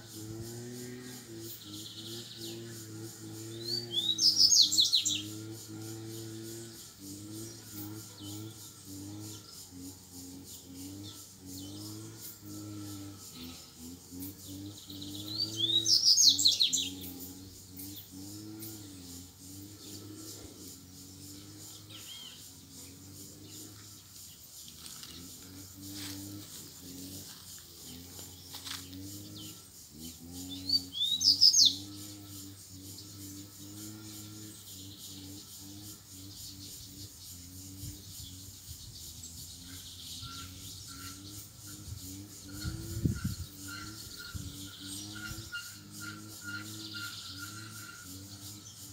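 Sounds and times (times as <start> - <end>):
birds singing faintly: 0.0 - 48.9
insects chirring: 0.0 - 48.9.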